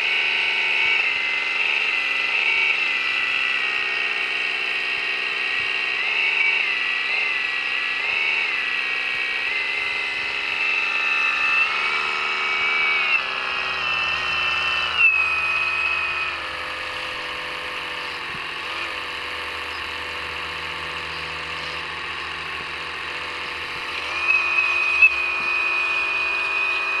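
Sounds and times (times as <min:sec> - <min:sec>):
small electric motors whining: 0:00.0 - 0:27.0.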